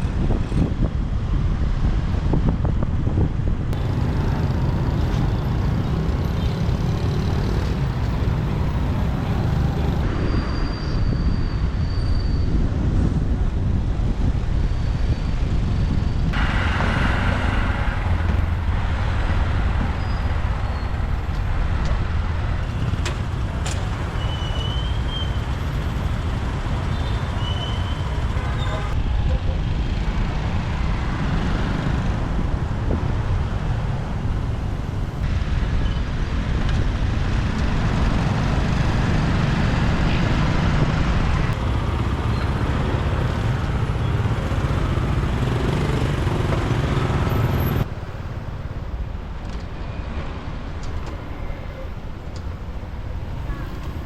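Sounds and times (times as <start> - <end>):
motorbike engine and road rumble: 0.0 - 10.6, 12.4 - 54.0
surrounding traffic: 0.0 - 54.0.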